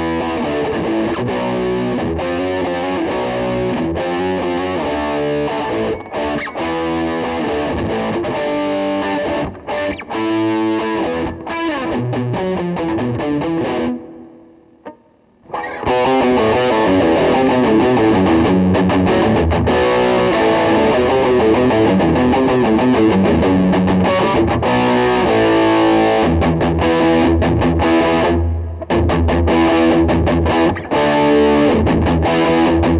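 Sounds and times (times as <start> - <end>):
distorted electric guitar: 0.0 - 32.9.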